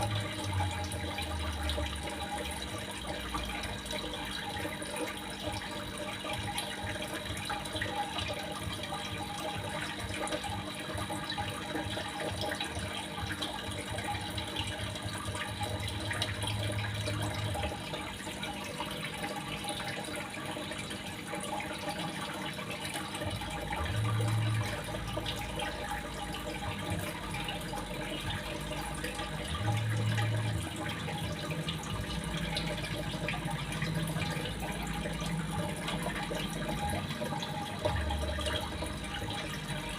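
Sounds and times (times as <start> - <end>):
running water splashing: 0.0 - 39.9.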